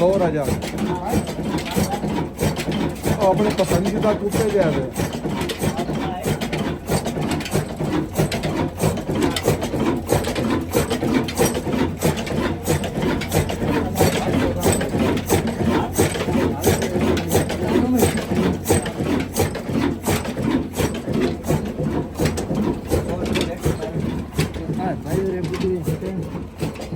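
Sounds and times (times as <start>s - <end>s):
diesel engine knocking: 0.0s - 26.9s.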